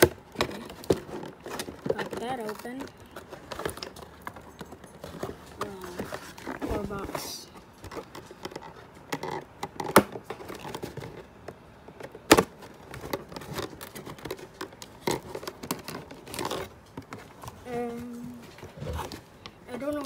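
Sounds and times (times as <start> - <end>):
plastic packaging crinkling: 0.1 - 20.0.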